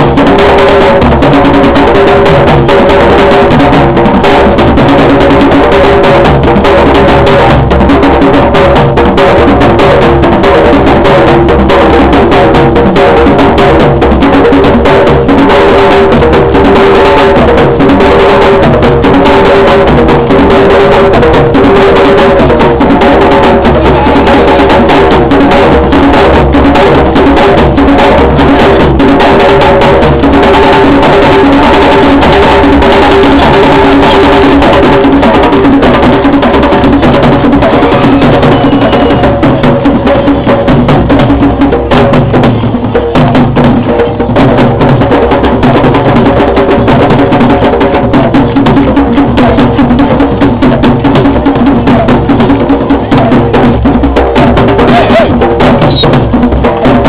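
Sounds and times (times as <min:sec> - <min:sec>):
loud live drumming: 0:00.0 - 0:57.0.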